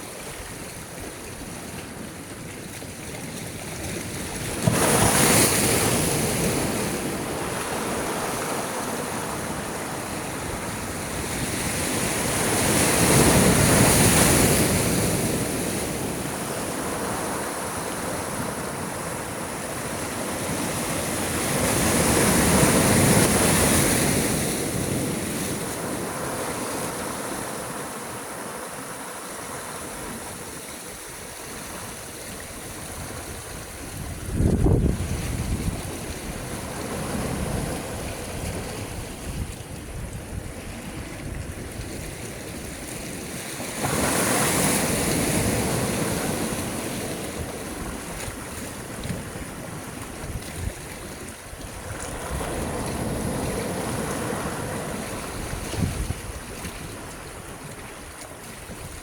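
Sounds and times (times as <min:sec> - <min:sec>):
sea waves breaking: 0:00.0 - 0:59.0
soft wash of water: 0:00.0 - 0:59.0.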